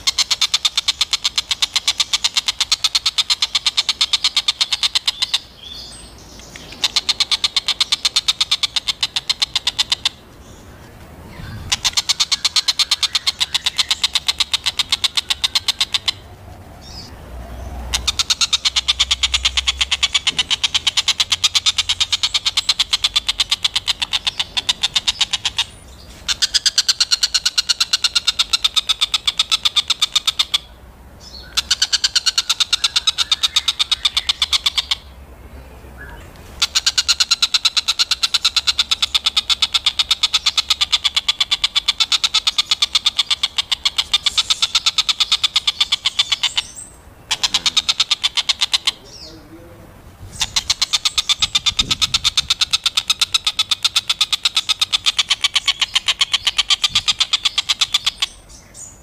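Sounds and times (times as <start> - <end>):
bird chattering call: 0.0 - 35.2, 36.0 - 59.0.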